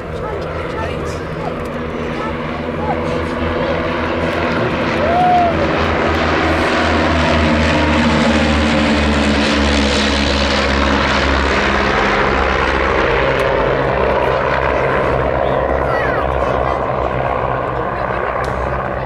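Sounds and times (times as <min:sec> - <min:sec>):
propeller plane droning past: 0:00.0 - 0:19.0.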